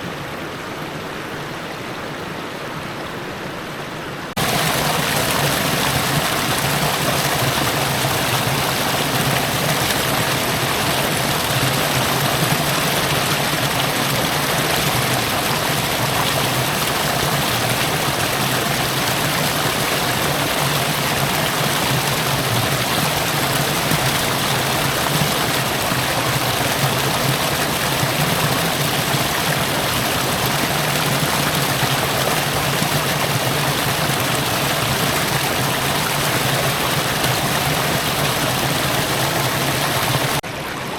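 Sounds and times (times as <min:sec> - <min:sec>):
river water running over rocks: 0:04.4 - 0:40.9.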